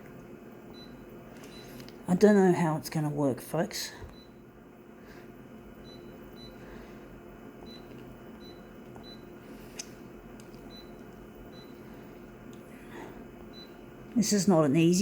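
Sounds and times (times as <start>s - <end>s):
photocopier humming: 0.0s - 15.0s.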